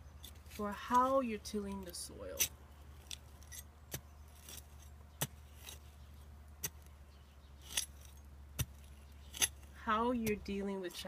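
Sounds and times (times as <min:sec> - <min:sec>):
metal tool digging in soil: 0:00.0 - 0:11.0.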